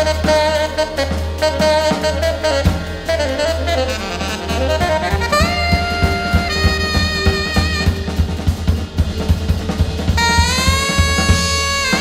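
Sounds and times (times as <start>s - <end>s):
tenor saxophone held notes: 0.0s - 8.4s, 10.2s - 12.0s
drum kit playing: 0.0s - 12.0s.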